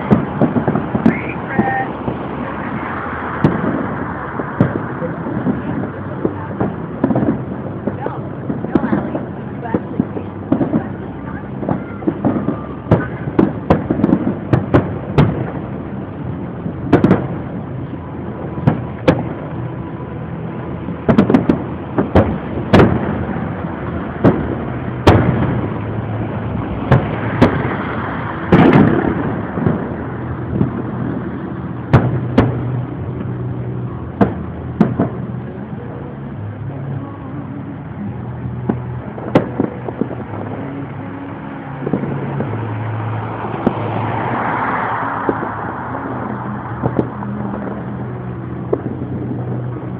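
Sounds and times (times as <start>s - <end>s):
firework shells booming: 0.0s - 19.6s, 20.6s - 35.5s, 38.6s - 40.6s, 41.8s - 49.9s
fireworks crackling: 0.0s - 49.9s
low rumble: 0.0s - 49.9s.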